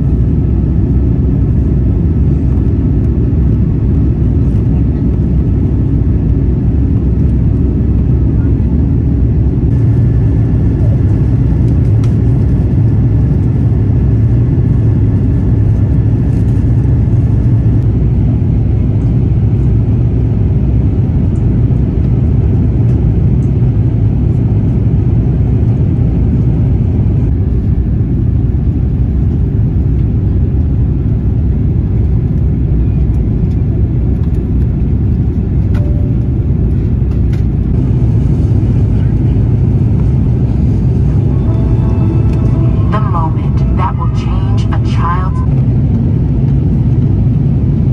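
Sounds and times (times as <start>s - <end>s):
aircraft cabin engine rumble: 0.0s - 47.9s
airflow over fuselage: 0.0s - 47.9s.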